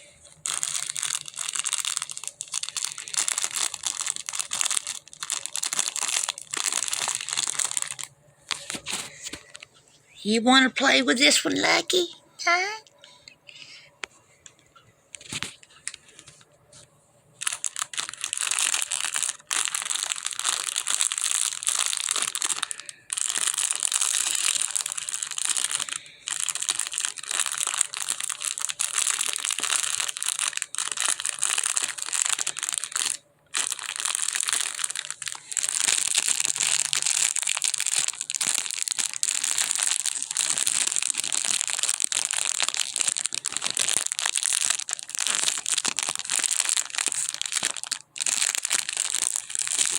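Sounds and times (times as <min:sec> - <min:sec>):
packaging crinkling: 0:00.4 - 0:09.7, 0:15.2 - 0:16.8, 0:17.4 - 0:49.9.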